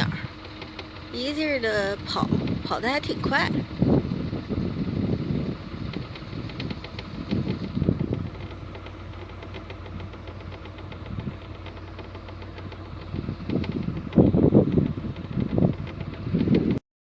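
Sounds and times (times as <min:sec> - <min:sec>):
boat engine running: 0:00.0 - 0:16.8.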